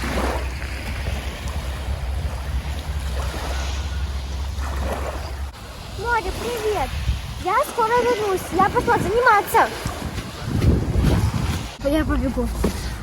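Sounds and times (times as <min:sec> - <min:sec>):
calm sea washing on shore: 0:00.0 - 0:13.0
wind buffeting microphone: 0:00.0 - 0:13.0.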